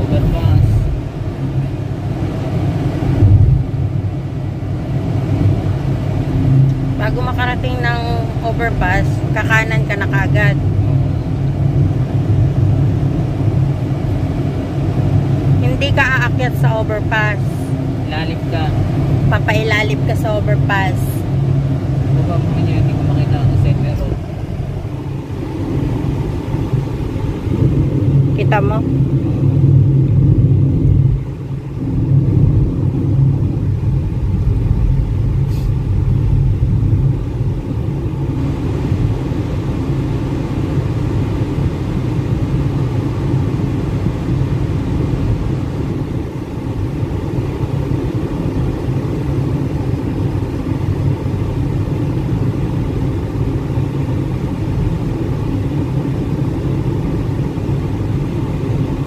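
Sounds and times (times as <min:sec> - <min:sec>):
car engine hum and road noise: 0:00.0 - 0:59.0.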